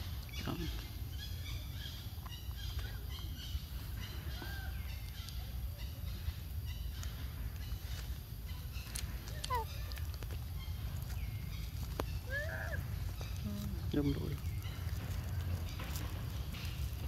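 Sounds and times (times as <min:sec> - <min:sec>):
low rumble: 0:00.0 - 0:17.0
small animal chirps and squeaks: 0:00.1 - 0:17.0.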